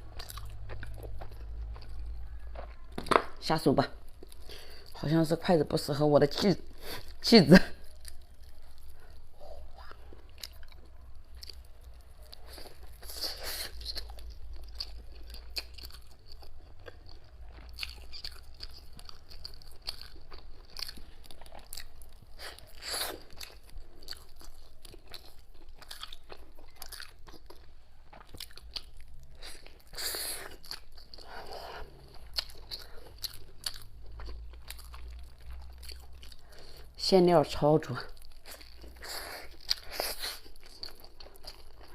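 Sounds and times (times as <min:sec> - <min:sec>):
close chewing with mouth clicks: 0:00.0 - 0:03.4, 0:06.4 - 0:37.0, 0:37.9 - 0:41.9.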